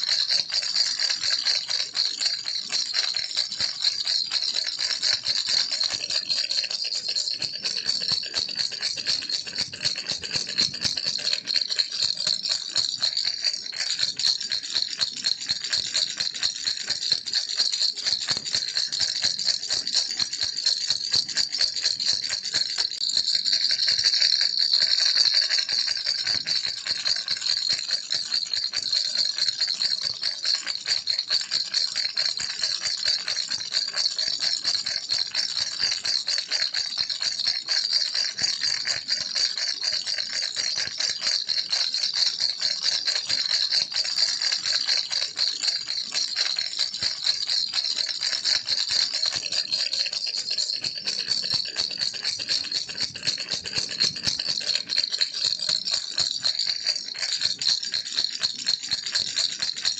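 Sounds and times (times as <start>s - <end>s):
baby's toy rattle shaken: 0.0s - 59.9s.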